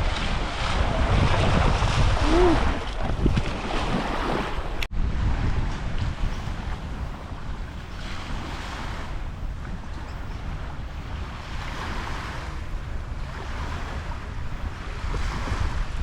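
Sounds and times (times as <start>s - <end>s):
waves washing in: 0.0s - 16.0s
wind buffeting microphone: 0.0s - 16.0s.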